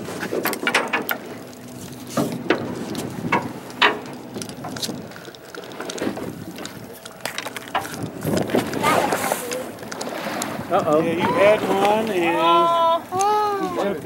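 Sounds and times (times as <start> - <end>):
boat engine hum: 0.0 - 14.0
water sloshing against hull: 0.0 - 14.0.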